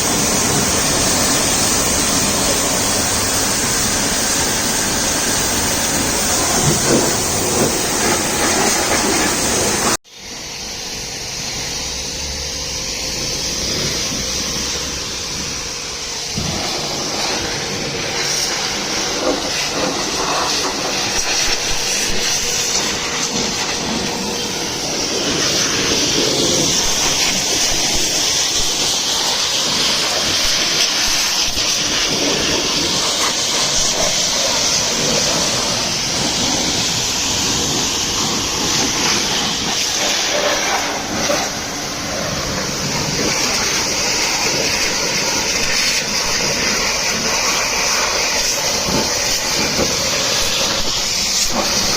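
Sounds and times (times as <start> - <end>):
water jet spraying: 0.0 - 10.0, 10.6 - 51.9.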